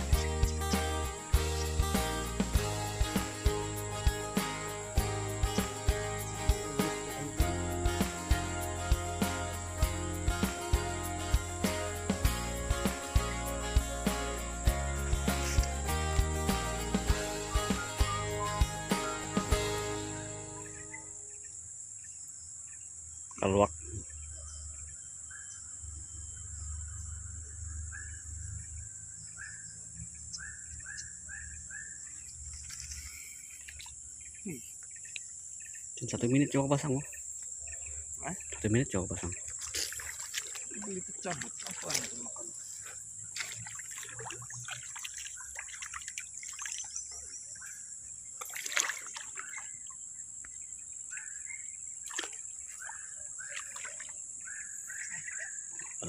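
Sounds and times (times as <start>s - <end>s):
muddy water splashing: 0.0s - 21.2s, 30.8s - 56.0s
insects droning: 0.0s - 56.0s.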